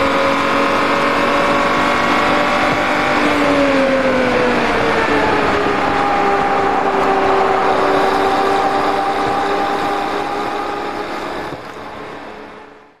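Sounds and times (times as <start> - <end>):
car engine drone: 0.0 - 13.0
wind and road noise: 0.0 - 13.0.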